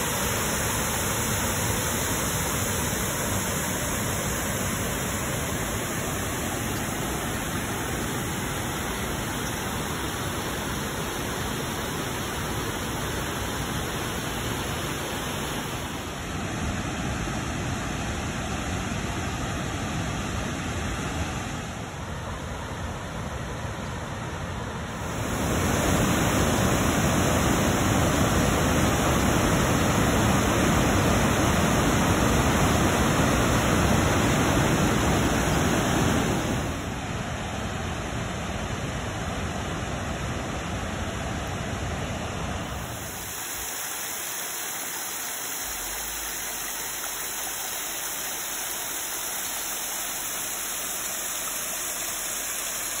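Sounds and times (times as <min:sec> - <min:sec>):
whitewater rushing: 0:00.0 - 0:21.0, 0:24.8 - 0:37.4, 0:42.0 - 0:53.0.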